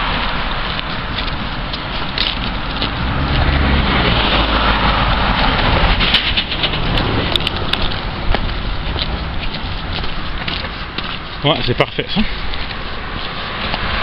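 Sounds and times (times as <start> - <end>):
car passing on wet road: 0.0 - 14.0.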